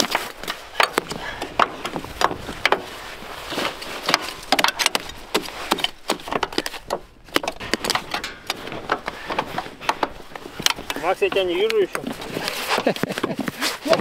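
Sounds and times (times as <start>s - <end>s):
knocks and scrapes chipping ice: 0.0s - 14.0s.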